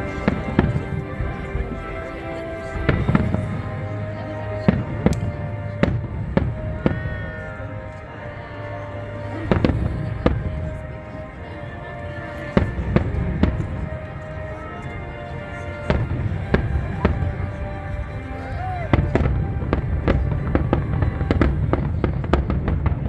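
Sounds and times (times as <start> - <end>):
music with long held notes: 0.0 - 23.0.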